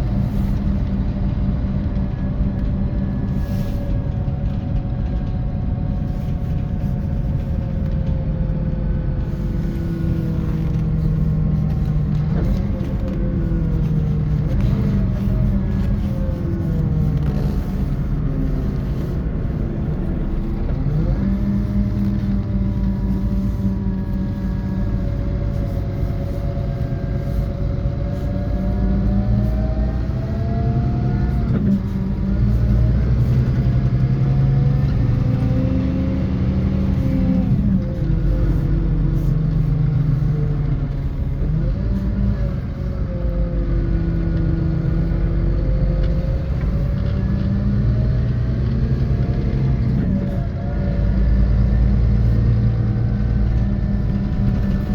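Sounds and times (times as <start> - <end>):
bus diesel engine under load: 0.0 - 54.9
road rumble: 0.0 - 54.9.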